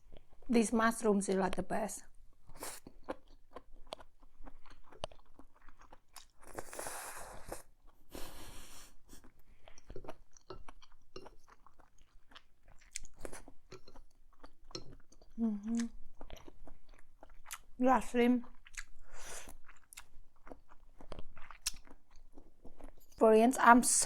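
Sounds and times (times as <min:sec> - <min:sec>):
person chewing noodles: 0:02.3 - 0:17.8, 0:18.4 - 0:23.2.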